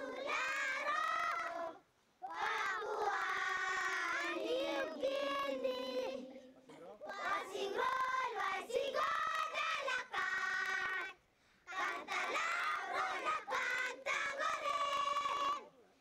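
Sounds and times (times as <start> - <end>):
children singing together: 0.0 - 6.4, 7.0 - 15.7.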